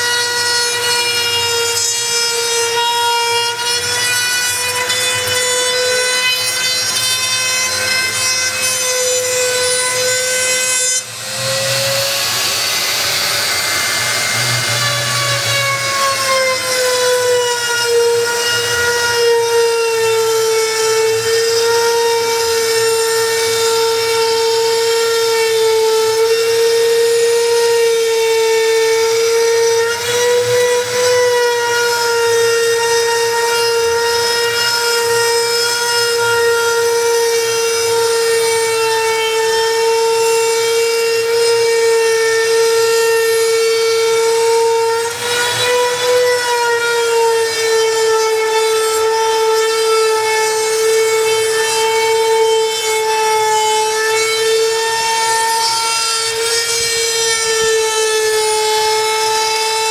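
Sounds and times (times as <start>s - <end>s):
rasping wood cutting noise: 0.0s - 59.9s
router spindle high whine: 0.0s - 59.9s.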